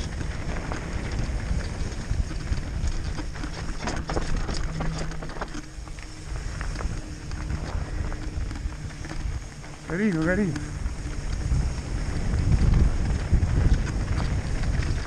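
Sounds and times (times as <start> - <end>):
bike clicks and knocks: 0.0 - 15.0
tyres rolling over loose stones: 0.0 - 15.0
wind rumble on microphone: 0.0 - 15.0.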